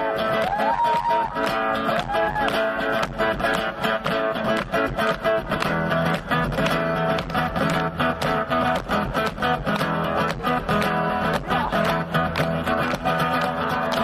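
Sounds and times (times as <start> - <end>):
guitar strumming: 0.0 - 14.0.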